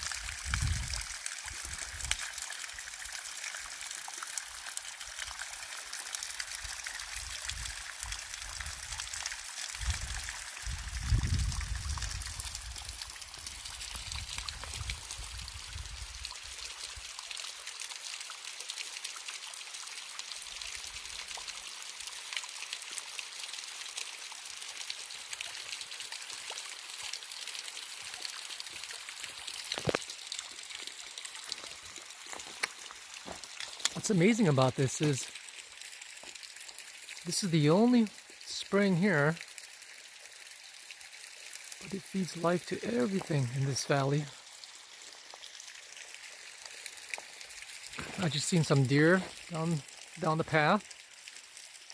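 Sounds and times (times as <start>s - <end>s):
water trickling and dripping: 0.0s - 51.9s.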